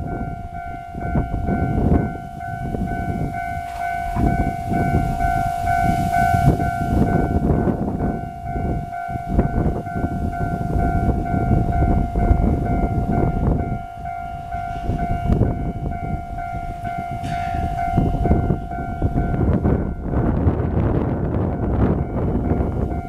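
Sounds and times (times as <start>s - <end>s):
level crossing warning bell: 0.0s - 23.0s.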